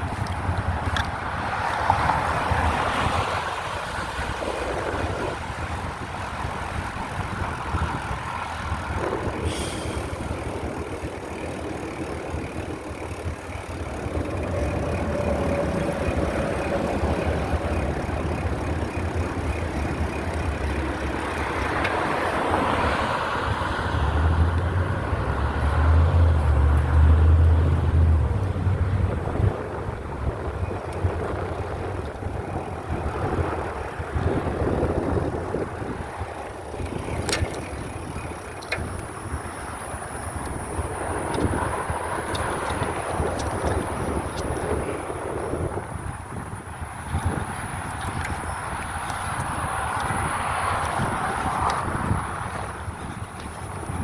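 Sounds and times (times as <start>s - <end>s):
road and tyre noise: 0.0s - 54.0s
wind buffeting microphone: 0.0s - 54.0s.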